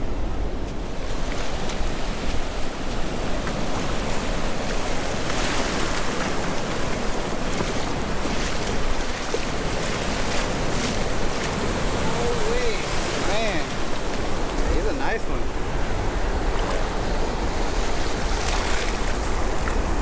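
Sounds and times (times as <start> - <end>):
surf waves breaking: 0.0 - 20.0.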